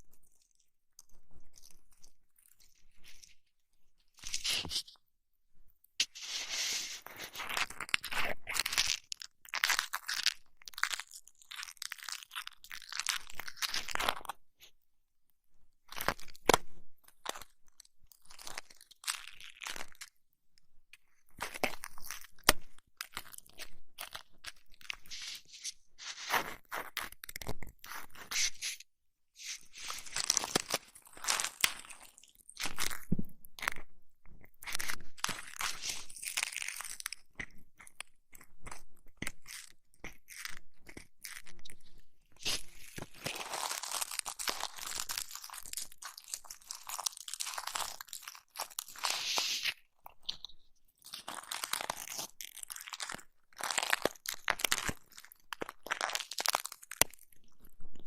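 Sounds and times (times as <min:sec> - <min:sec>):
crackly rubbing and scratching: 0:00.0 - 0:05.1, 0:05.7 - 0:14.8, 0:15.8 - 0:58.0.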